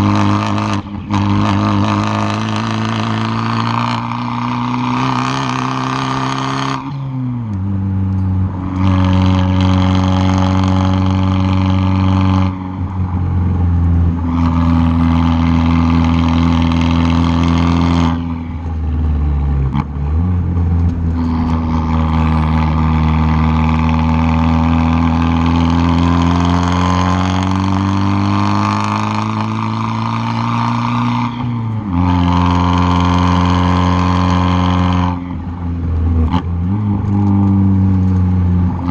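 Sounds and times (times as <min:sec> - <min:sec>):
car exhaust accelerating hard: 0:00.0 - 0:38.9.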